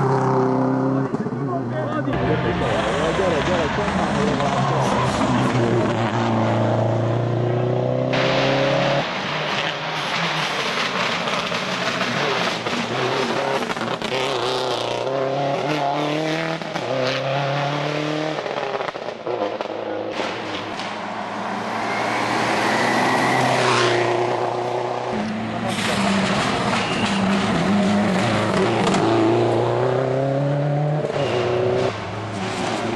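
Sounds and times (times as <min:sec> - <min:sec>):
rally car engine revving hard: 0:02.2 - 0:20.7, 0:22.3 - 0:32.9.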